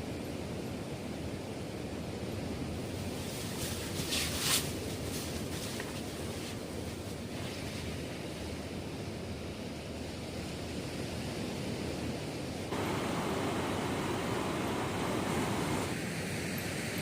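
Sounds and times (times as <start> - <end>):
sea surf on a beach: 0.0 - 17.0.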